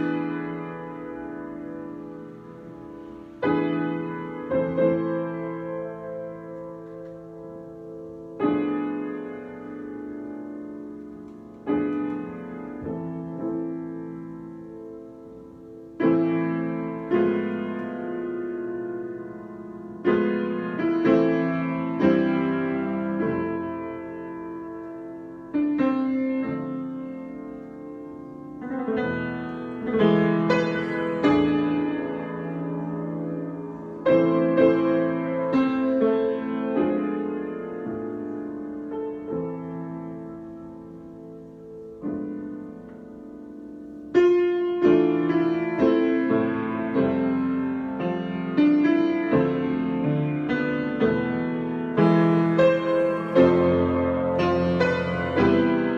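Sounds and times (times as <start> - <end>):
solo piano chords: 0.0 - 55.9.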